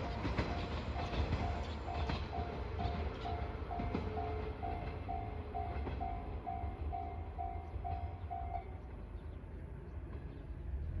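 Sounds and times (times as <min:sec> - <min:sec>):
level crossing warning bell: 0:00.0 - 0:08.9
train rumble: 0:00.0 - 0:11.0.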